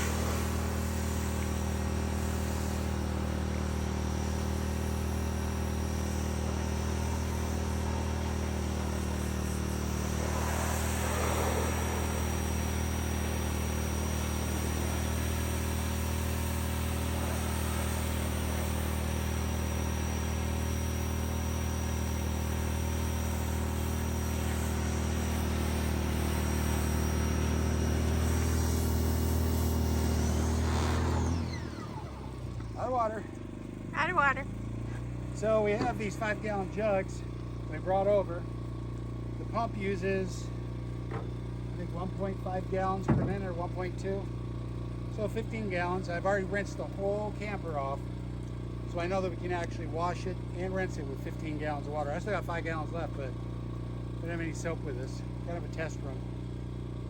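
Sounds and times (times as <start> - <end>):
generator and pressure washer running: 0.0 - 57.0.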